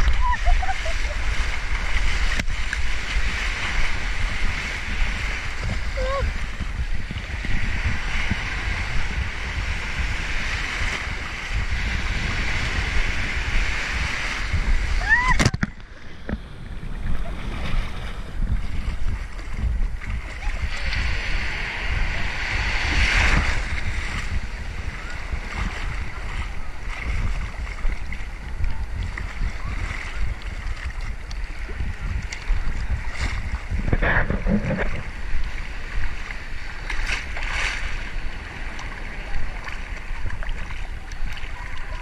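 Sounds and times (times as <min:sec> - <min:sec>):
ocean surf lapping: 0:00.0 - 0:28.4, 0:31.4 - 0:42.0
water splashes: 0:00.0 - 0:42.0
wind buffeting microphone: 0:00.0 - 0:42.0.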